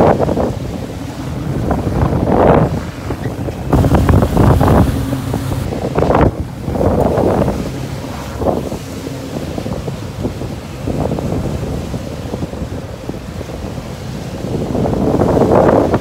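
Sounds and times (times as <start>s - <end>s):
boat engines humming: 0.0s - 16.0s
boat wake rushing: 0.0s - 16.0s
wind buffeting microphone: 0.0s - 16.0s.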